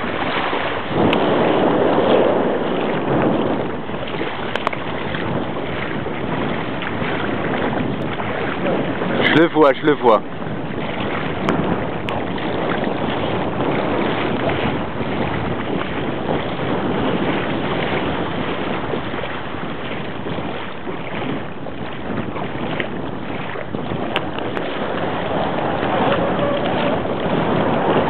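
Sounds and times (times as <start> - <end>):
choppy water: 0.0 - 28.0
wind rushing over microphone: 0.0 - 28.0.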